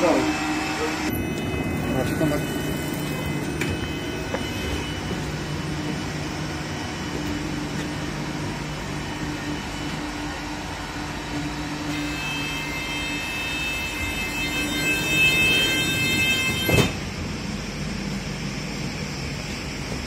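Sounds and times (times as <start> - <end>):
high steady whine: 0.0 - 20.0
train interior running hum: 0.0 - 20.0.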